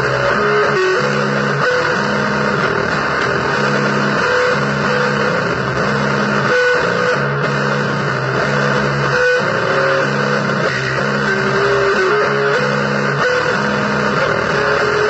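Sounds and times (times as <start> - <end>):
guitar playing blues riff: 0.0 - 15.0.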